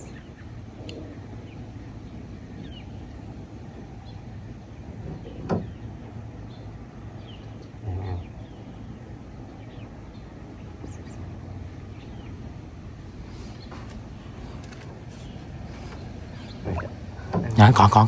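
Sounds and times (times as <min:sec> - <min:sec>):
birds chirping faintly: 0:00.0 - 0:18.0
outdoor background hiss: 0:00.0 - 0:18.0.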